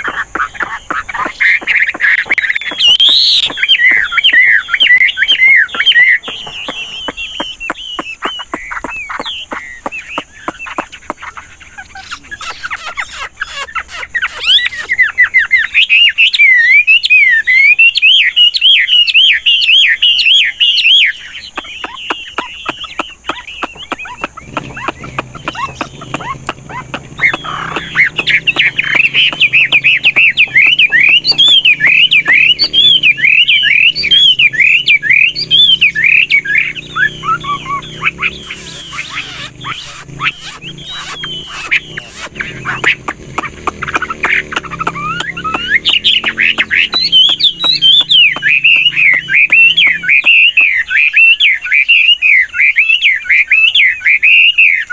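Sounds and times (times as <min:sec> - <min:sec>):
bird singing whistled phrases: 0:00.0 - 0:43.0, 0:43.8 - 0:54.9
quiet bird clicking notes: 0:00.0 - 0:52.0.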